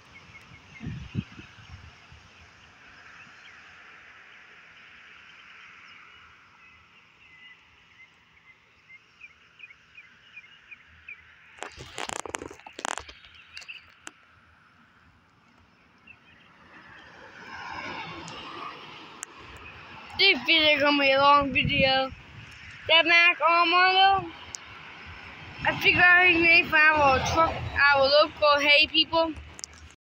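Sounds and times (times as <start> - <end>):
birds chirping: 0.0 - 17.3, 19.1 - 29.9.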